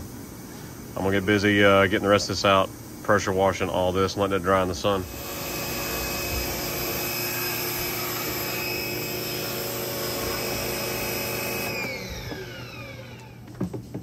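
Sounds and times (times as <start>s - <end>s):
pressure washer motor humming: 1.0s - 13.8s.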